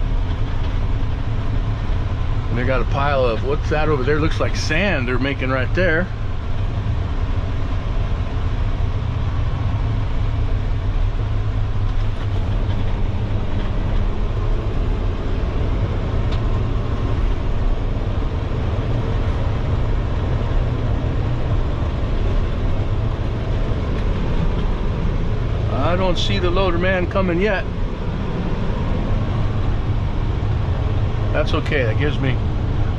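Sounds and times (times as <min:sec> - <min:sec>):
diesel truck engine rumbling: 0:00.0 - 0:32.9.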